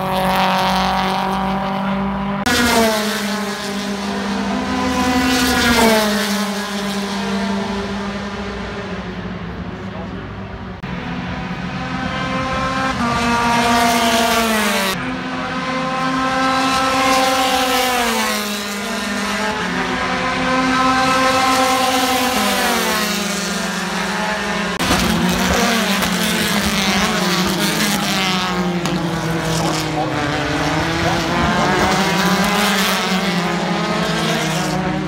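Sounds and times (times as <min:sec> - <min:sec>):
race car engines revving high: 0:00.0 - 0:35.0.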